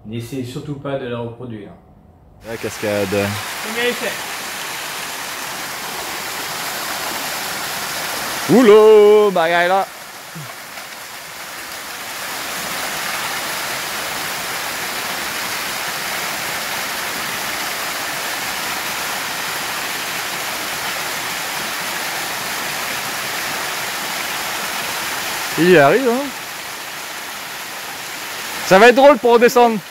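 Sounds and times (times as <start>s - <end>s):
waterfall rushing: 2.4s - 29.9s.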